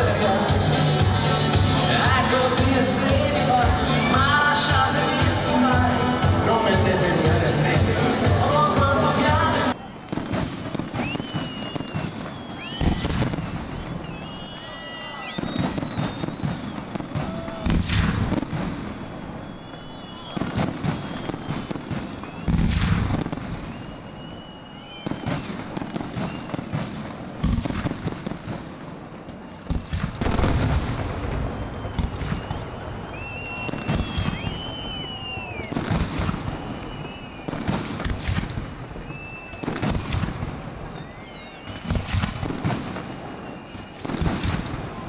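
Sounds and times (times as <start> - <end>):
fireworks bangs and booms: 0.0 - 45.0
fireworks whistling: 0.0 - 45.0.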